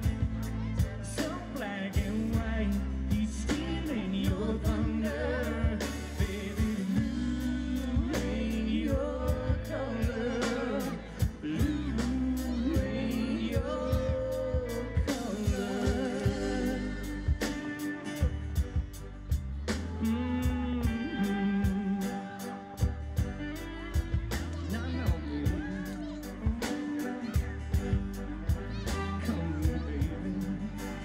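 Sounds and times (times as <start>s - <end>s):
drum kit beat: 0.0s - 31.0s
guitars: 0.0s - 31.0s
keyboard: 0.0s - 31.0s
person singing lead vocals: 0.0s - 31.0s.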